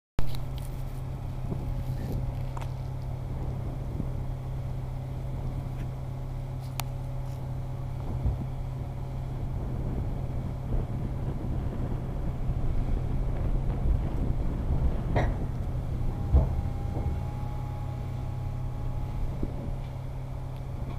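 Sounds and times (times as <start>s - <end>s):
heavy diesel engine running: 0.2s - 20.9s.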